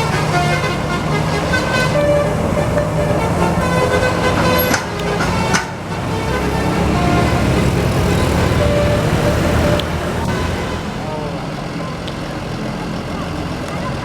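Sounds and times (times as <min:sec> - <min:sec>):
bus multi-tone horn: 0:00.0 - 0:12.0
bus engine running: 0:00.0 - 0:14.0.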